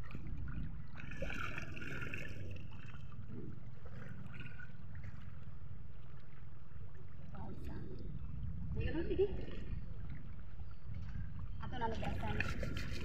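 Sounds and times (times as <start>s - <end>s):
seawater lapping around rocks: 0.0s - 13.0s
steady low rumble: 0.0s - 13.0s.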